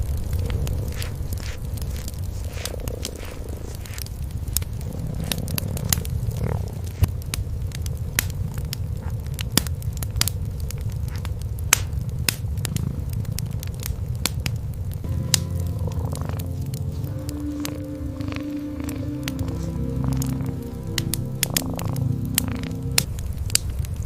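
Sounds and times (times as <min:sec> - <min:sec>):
cats purring: 0:00.0 - 0:24.0
wood fire crackling and popping: 0:00.0 - 0:24.0.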